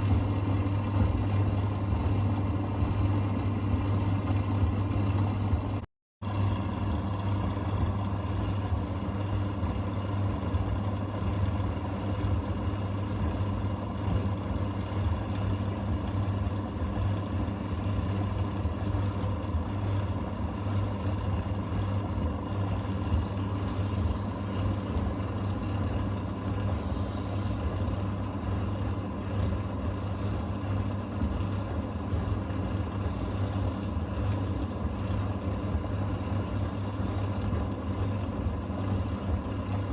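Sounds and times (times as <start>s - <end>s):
tumble dryer running: 0.0s - 39.9s.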